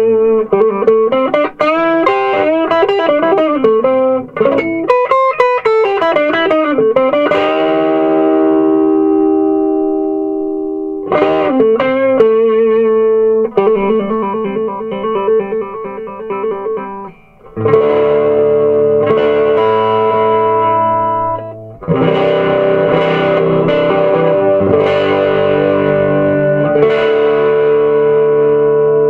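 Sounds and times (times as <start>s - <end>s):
electric guitar playing: 0.0s - 29.0s.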